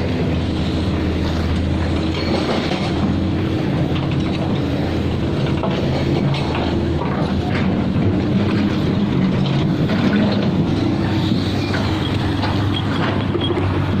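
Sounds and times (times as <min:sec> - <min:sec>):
diesel engine drone: 0:00.0 - 0:14.0
light machinery clatter: 0:01.2 - 0:14.0.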